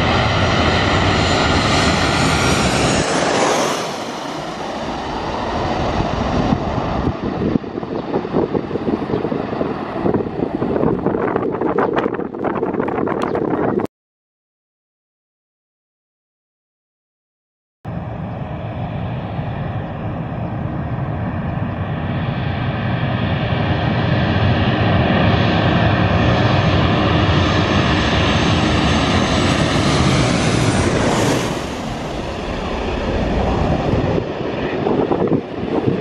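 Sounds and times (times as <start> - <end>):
jet airliner passing overhead: 0.0 - 13.9, 17.9 - 36.0.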